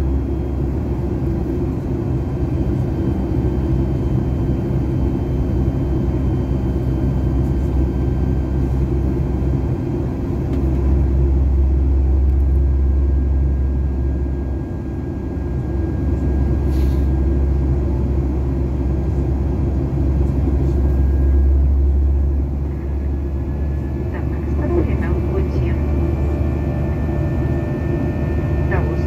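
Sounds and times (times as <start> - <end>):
low rumble of jet engines: 0.0 - 29.0.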